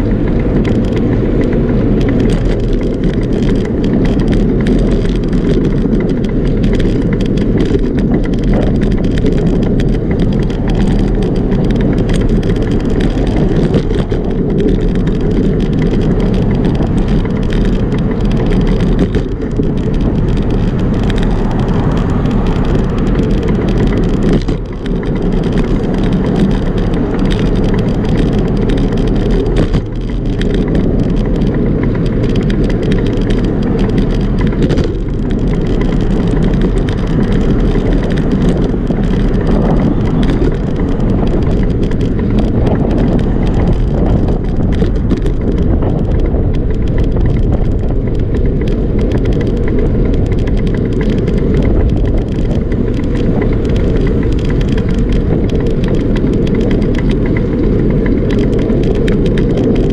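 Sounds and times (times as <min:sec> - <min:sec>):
road and tyre noise: 0:00.0 - 0:59.9
wind buffeting microphone: 0:00.0 - 0:59.9.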